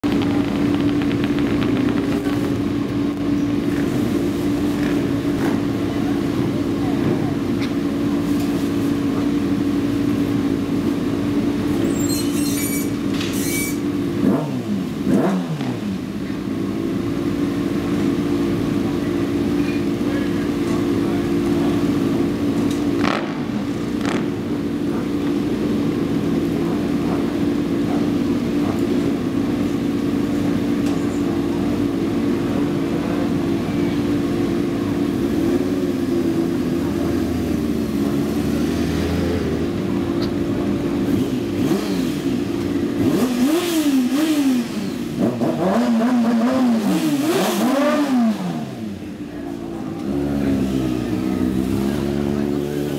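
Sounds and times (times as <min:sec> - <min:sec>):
motorcycle engines idling: 0:00.0 - 0:52.9.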